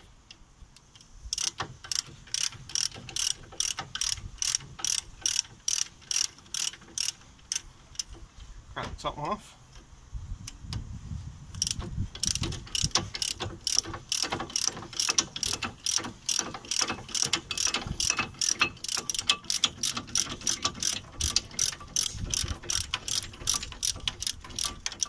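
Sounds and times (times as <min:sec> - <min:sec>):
ratchet clicking rapidly: 0:01.3 - 0:08.3, 0:11.5 - 0:25.0.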